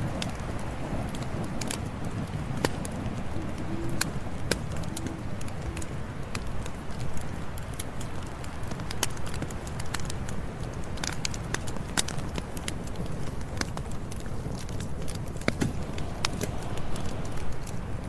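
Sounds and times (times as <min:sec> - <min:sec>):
low rumble of flames: 0:00.0 - 0:18.0
wood crackling and popping: 0:00.0 - 0:18.0.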